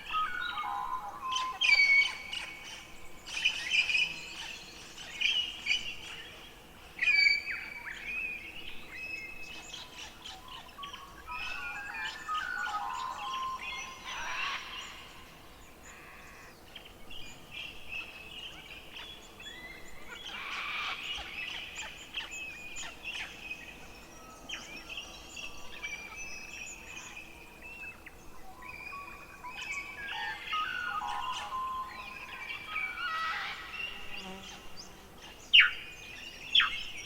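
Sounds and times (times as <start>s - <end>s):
songbirds chirping and trilling: 0.0s - 37.0s.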